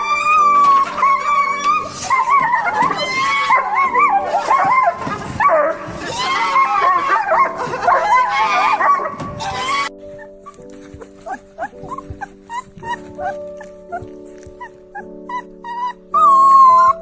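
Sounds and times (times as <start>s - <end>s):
background music with held notes: 0.0s - 17.0s
dog whining and yipping: 0.0s - 17.0s.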